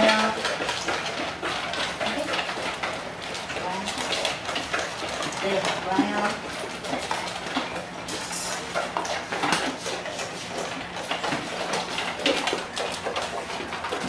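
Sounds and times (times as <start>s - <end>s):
dogs eating from metal bowls: 0.0s - 14.0s.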